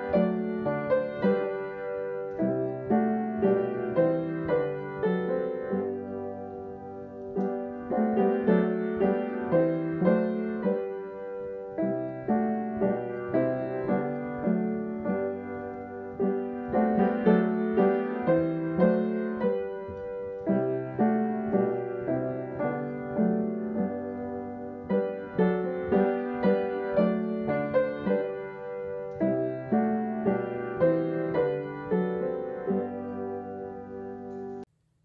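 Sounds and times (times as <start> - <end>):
slow solo piano: 0.0 - 34.7.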